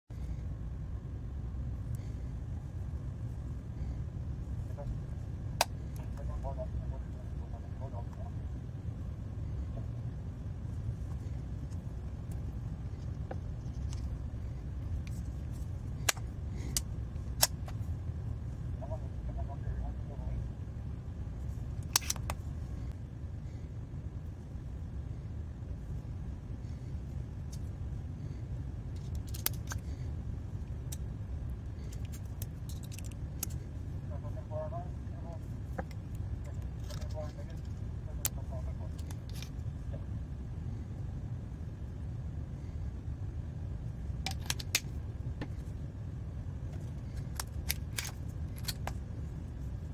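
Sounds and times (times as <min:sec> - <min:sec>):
steady low rumble: 0:00.1 - 0:49.9.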